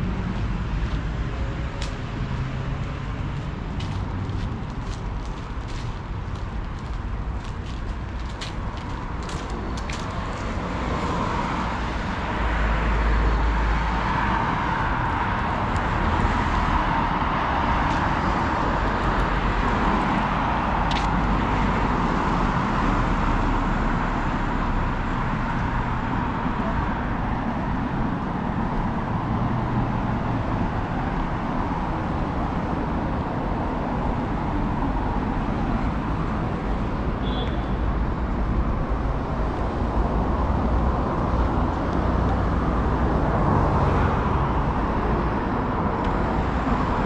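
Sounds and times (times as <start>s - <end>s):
city road traffic: 0.0s - 47.0s.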